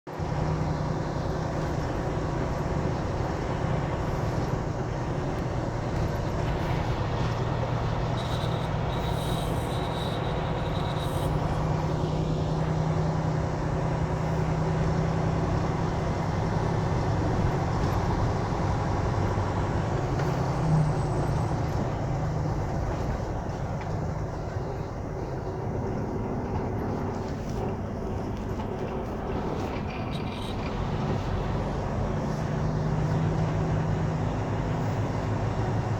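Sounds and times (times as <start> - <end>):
road noise: 0.1 - 35.9
vehicle engine hum: 0.1 - 35.9.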